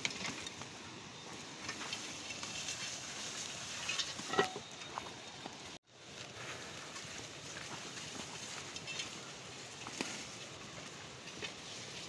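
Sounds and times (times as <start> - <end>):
footsteps on dirt path: 0.0 - 11.8
leaves rustling: 0.0 - 12.0
small crackles: 1.6 - 12.0.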